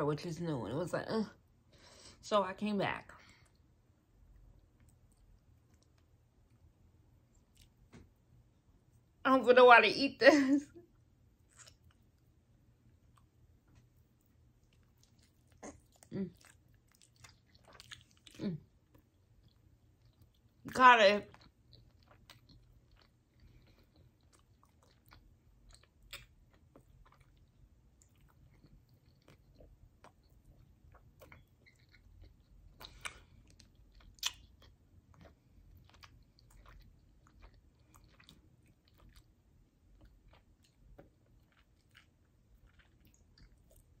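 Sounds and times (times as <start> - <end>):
person chewing: 3.4 - 9.1, 10.9 - 20.6, 21.3 - 44.0.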